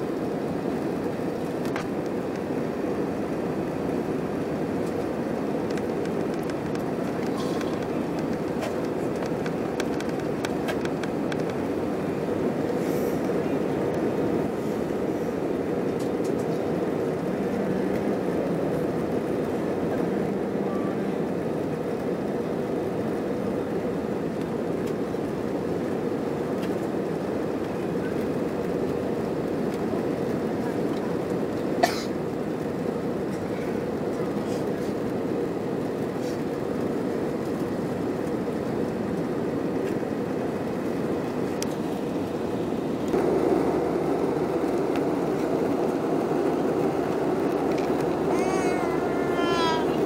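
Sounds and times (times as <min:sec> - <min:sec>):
airliner cabin roar: 0:00.0 - 0:50.0
faint steady hum: 0:00.0 - 0:50.0.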